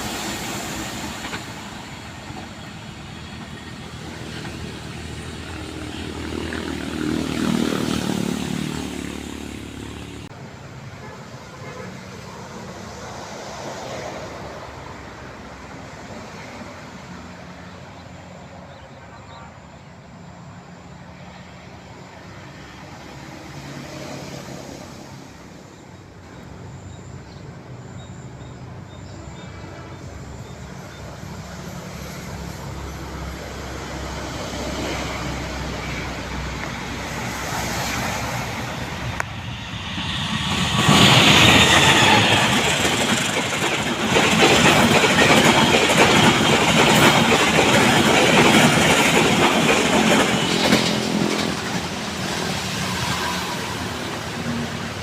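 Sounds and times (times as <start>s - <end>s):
locomotive hum: 0.0s - 18.7s, 20.2s - 55.0s
train wheels rushing on rails: 0.0s - 19.2s, 28.8s - 55.0s.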